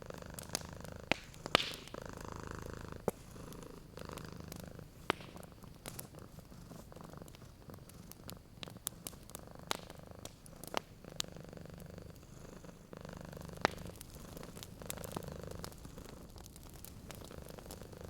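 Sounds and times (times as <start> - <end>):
cat purring: 0.0 - 18.0
wood fire crackling and popping: 0.0 - 18.0.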